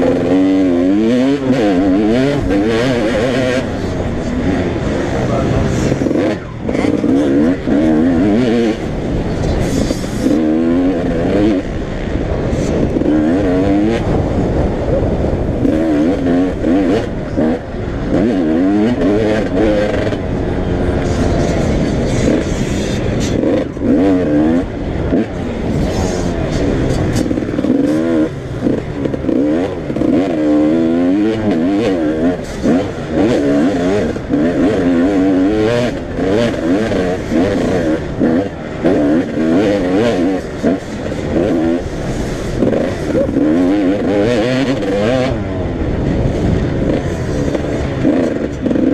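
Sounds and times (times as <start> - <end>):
motocross bikes revving: 0.0 - 48.9.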